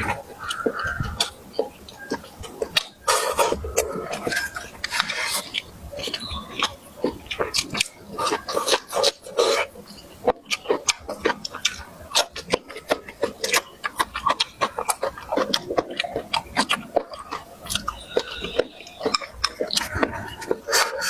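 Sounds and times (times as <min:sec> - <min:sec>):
person chewing with smacking: 0:00.0 - 0:21.0.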